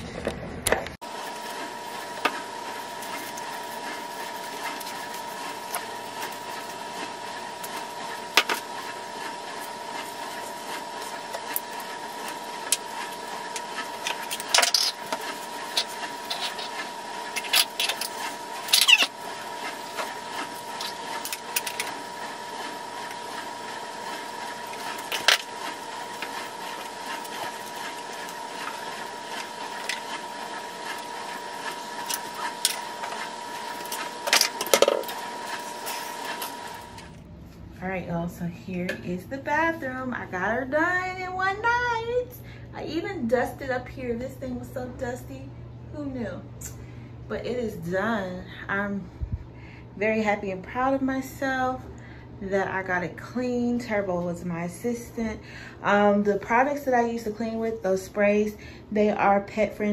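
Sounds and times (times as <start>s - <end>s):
steady electrical hum: 0.0s - 59.9s.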